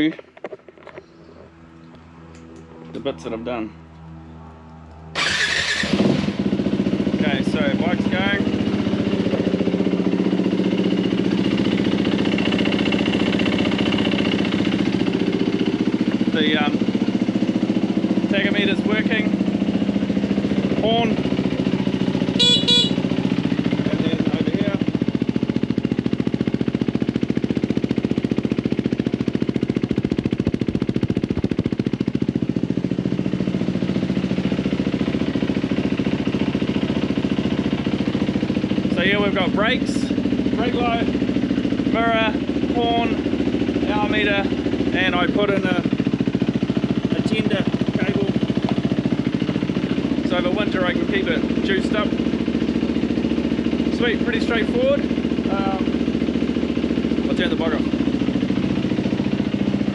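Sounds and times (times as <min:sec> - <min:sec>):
motorcycle engine idling: 0:03.8 - 0:59.9.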